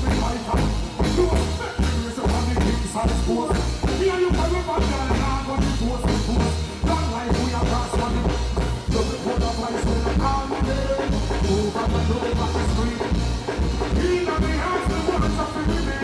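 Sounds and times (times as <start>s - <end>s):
heavy pulsing bass line: 0.0s - 16.0s
reggae band music: 0.0s - 16.0s.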